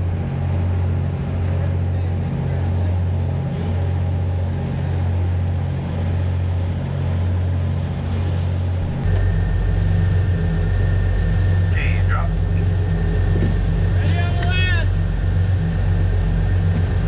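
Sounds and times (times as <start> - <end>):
boat engine droning: 0.0 - 17.0
wind: 0.0 - 17.0
wake rushing: 0.4 - 17.0.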